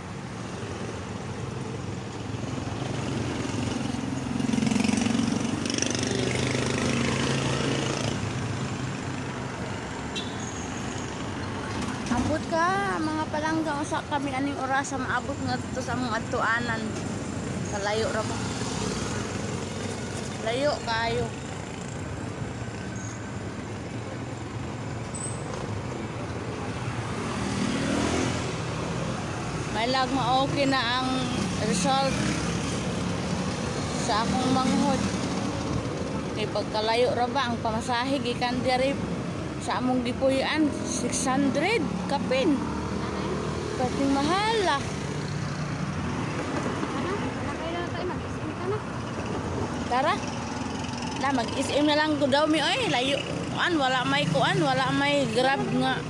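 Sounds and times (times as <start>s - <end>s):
road noise: 0.0s - 56.0s
traffic passing: 0.0s - 56.0s
vehicle engines: 0.0s - 56.0s.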